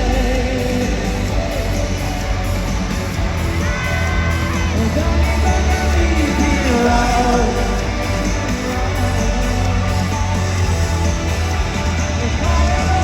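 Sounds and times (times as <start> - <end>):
person singing: 0.0 - 3.0, 3.6 - 13.0
live pop-rock band: 0.0 - 13.0.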